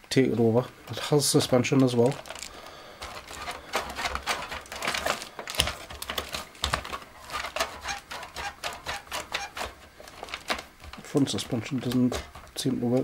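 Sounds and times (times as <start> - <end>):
toy truck suspension clicking and rattling: 1.9 - 13.0.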